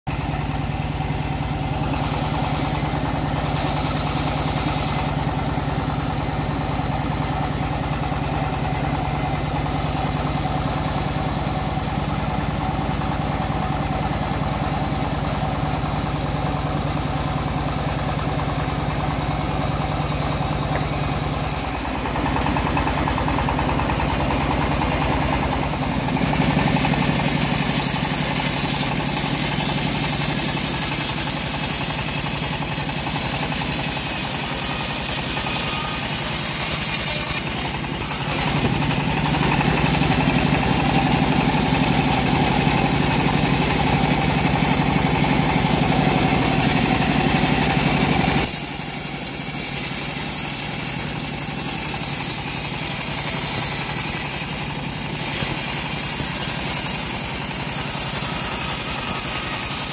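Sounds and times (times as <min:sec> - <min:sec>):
sawmill engine running: 0:00.0 - 0:59.9
band blade cutting log: 0:00.1 - 0:59.9.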